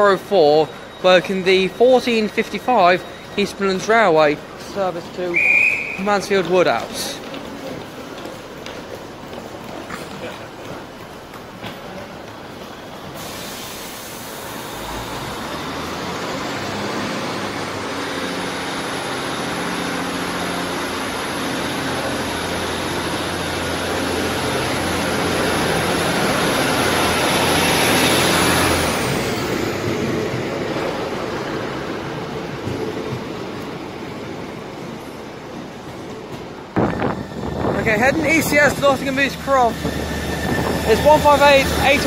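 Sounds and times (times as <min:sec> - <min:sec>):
diesel train engines pulling away: 0:00.0 - 0:42.0.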